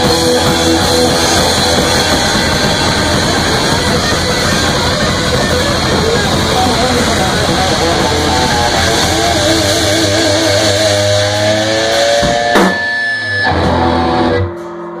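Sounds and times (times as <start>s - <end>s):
drum and cymbal hit: 0.0s - 14.7s
bass guitar: 0.0s - 15.0s
drum kit: 0.0s - 15.0s
electric guitar: 0.0s - 15.0s.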